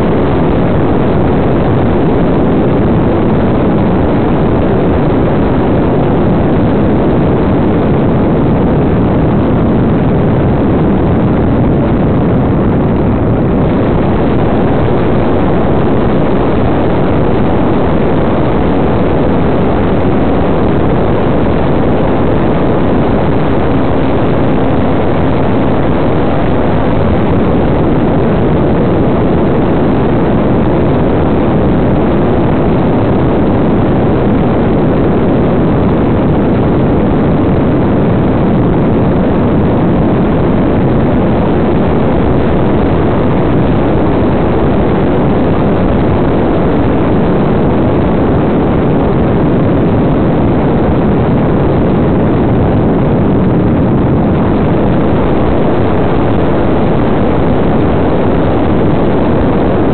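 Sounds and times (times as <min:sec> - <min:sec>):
model airplane propeller drone: 0:00.0 - 0:59.9
wind on microphone: 0:00.0 - 0:59.9.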